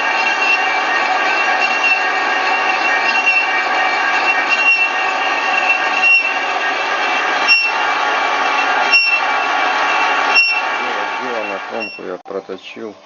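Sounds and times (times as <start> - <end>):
metal lathe machining: 0.0 - 12.2.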